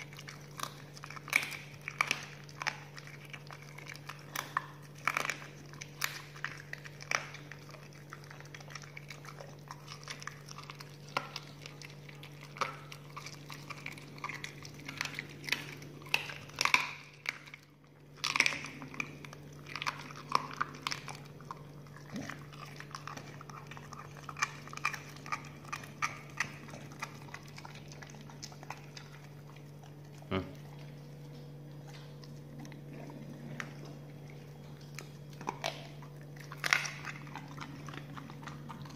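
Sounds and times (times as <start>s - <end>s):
dog crunching bones: 0.0s - 38.9s
steady low hum: 0.0s - 38.9s.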